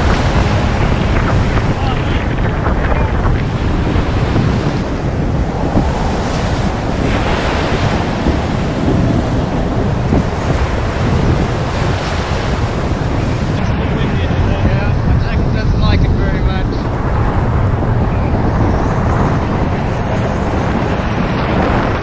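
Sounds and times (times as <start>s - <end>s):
waves and spray rushing: 0.0s - 22.0s
wind buffeting microphone: 0.0s - 22.0s.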